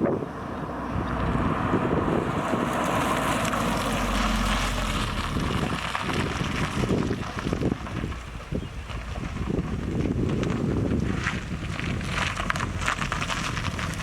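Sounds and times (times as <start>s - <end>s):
car exhaust drone: 0.0s - 14.0s
wind buffeting microphone: 0.0s - 14.0s.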